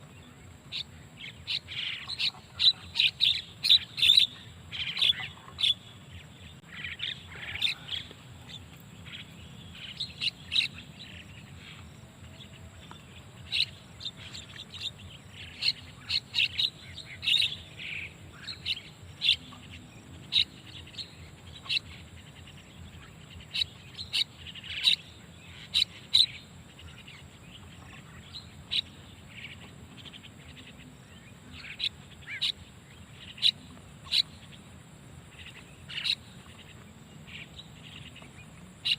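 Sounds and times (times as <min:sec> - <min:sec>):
starling chirps: 0:00.1 - 0:34.7, 0:35.3 - 0:38.9.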